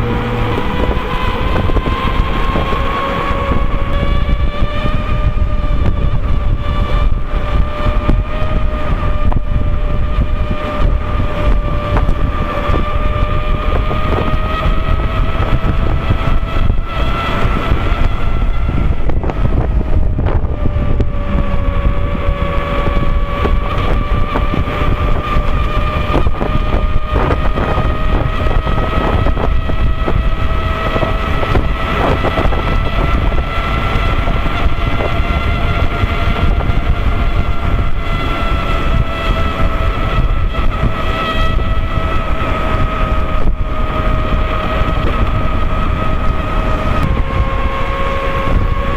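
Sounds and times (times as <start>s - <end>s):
tyre humming on road: 0.0s - 48.9s
wind rumble on microphone: 0.0s - 48.9s.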